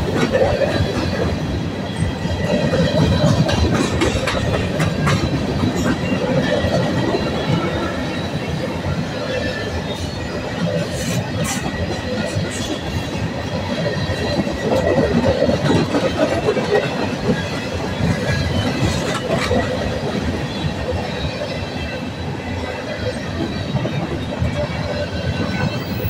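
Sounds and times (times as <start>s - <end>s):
train wheels rumbling and clattering: 0.0s - 26.0s.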